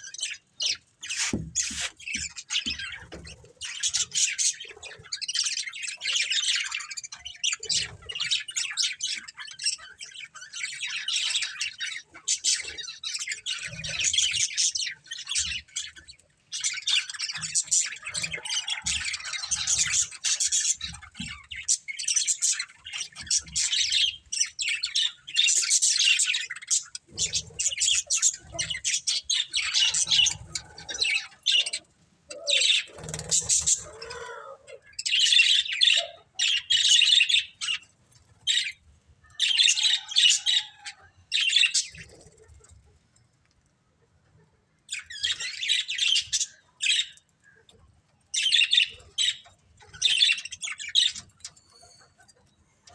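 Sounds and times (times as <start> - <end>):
budgerigars chirping: 0.1 - 42.3, 44.9 - 47.2, 48.4 - 52.3.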